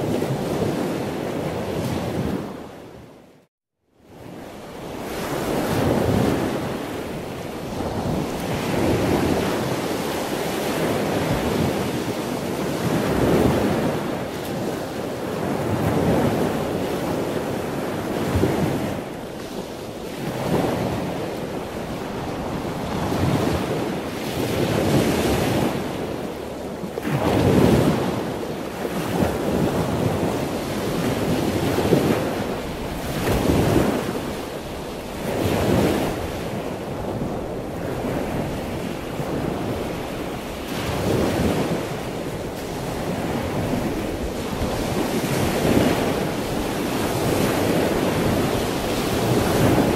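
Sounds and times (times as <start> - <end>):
wind buffeting microphone: 4.1 - 49.9
ocean waves breaking: 4.2 - 49.9.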